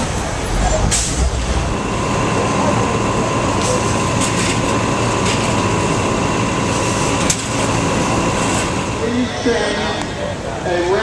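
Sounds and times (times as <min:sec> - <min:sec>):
crowded street din: 0:00.0 - 0:11.0.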